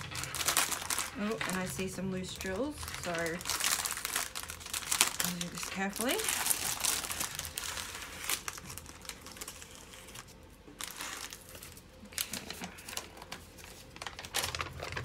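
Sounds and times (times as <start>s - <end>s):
paper sheet rustling: 0.0s - 15.0s
plastic bag crinkling: 0.0s - 15.0s.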